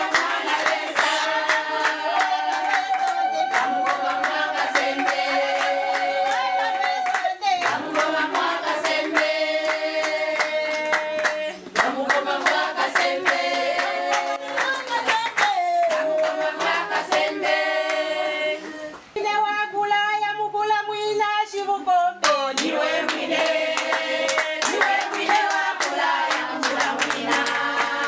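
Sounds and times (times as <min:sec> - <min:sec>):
hand clapping: 0:00.0 - 0:18.0, 0:22.2 - 0:28.0
voices singing together: 0:00.0 - 0:19.3, 0:21.6 - 0:28.0.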